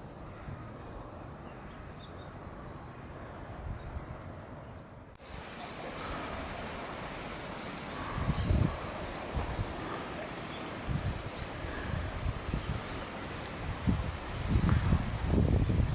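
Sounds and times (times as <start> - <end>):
wind rumbling on microphone: 0.0 - 15.9.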